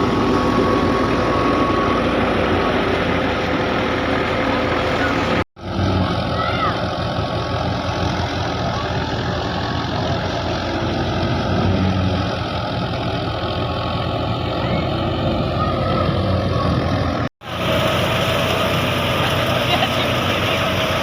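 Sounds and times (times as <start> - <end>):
harvesting machine engine running: 0.0 - 21.0.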